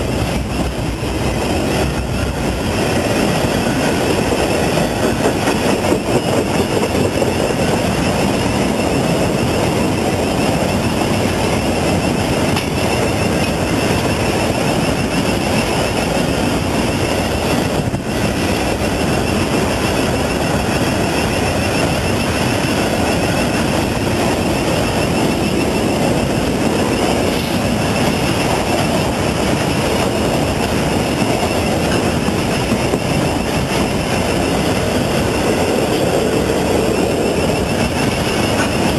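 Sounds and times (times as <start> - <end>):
freight train wagons rolling past: 0.0 - 38.9.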